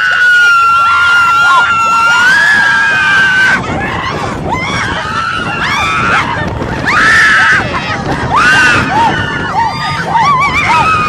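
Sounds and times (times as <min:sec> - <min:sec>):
people screaming: 0:00.0 - 0:11.0
people whooping: 0:00.0 - 0:11.0.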